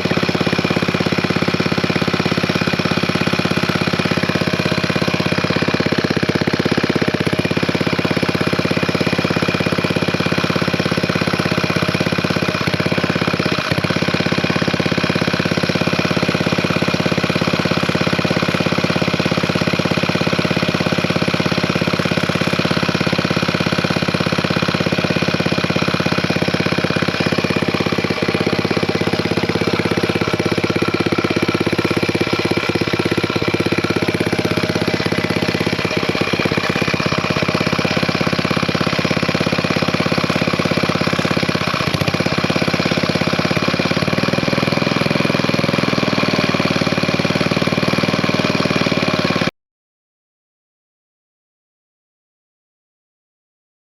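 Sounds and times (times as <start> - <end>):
stationary engine running: 0.0 - 49.5.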